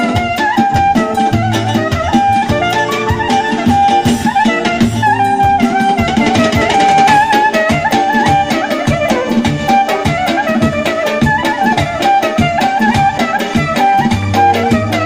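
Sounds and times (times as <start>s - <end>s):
folk dance tune on synthesizer: 0.0s - 15.0s
steady drum beat: 0.0s - 15.0s.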